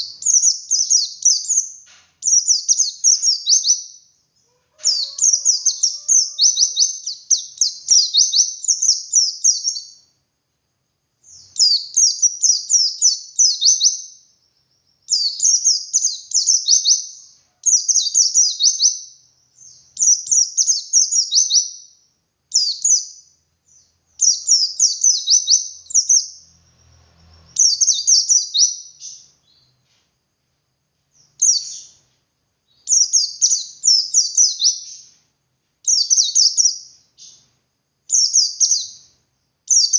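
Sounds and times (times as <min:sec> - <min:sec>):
bird chirping song: 0:00.0 - 0:10.2, 0:11.2 - 0:30.1, 0:31.0 - 0:39.9.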